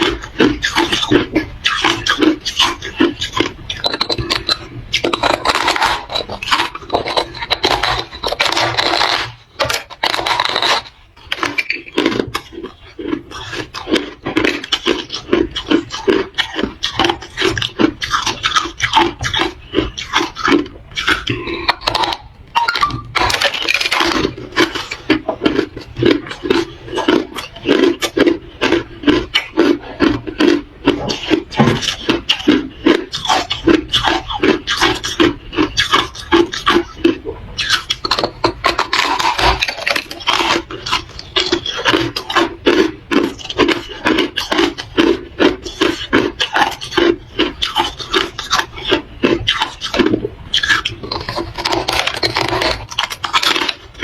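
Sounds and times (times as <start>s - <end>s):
ice crunching while chewing: 0.0s - 54.0s.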